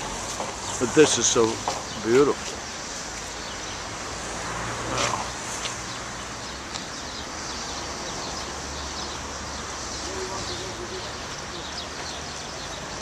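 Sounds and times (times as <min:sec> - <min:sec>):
low hum of traffic: 0:00.0 - 0:13.0
small birds chirping: 0:00.0 - 0:13.0.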